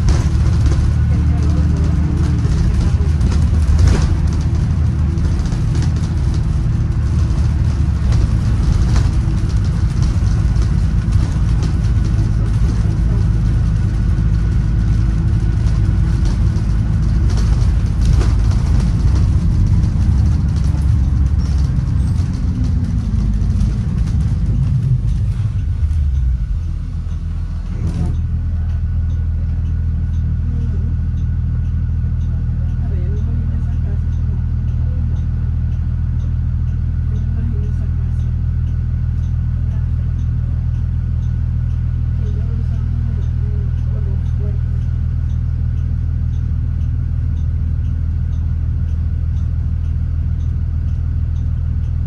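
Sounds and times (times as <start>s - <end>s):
bus engine running: 0.0s - 52.0s
road rattle: 0.0s - 52.0s.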